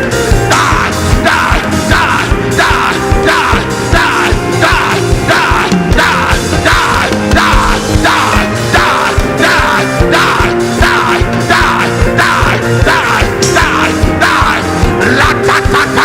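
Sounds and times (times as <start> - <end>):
fast driving beat: 0.0 - 16.0
loud music with keyboard chords: 0.0 - 16.0
people shouting: 0.3 - 16.0.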